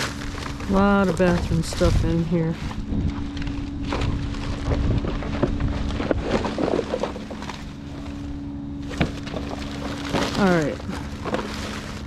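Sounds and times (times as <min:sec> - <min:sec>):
wind buffeting microphone: 0:00.0 - 0:10.1
items rustling in trash bag: 0:00.0 - 0:12.0
vehicle engine hum: 0:00.0 - 0:12.0.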